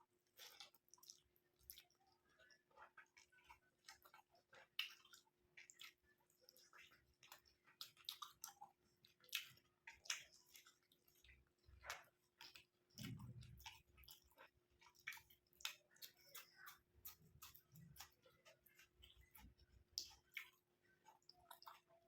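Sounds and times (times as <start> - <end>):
wet chewing mouth clicks: 0.3 - 22.0.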